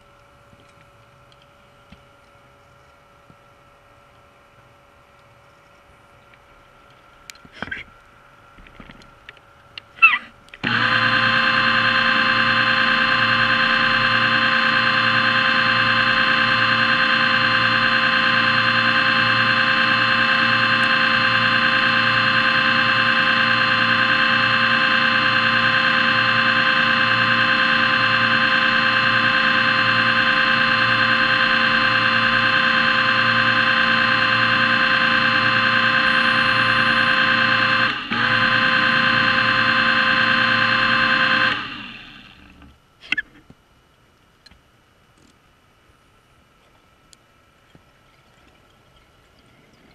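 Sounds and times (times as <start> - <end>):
electric motor and propeller whine: 0.0 - 42.8.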